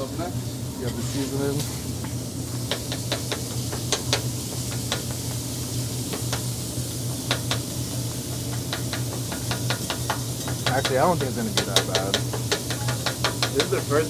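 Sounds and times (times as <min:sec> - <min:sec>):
meat sizzling on grill: 0:00.0 - 0:14.0
steady low hum: 0:00.0 - 0:14.0.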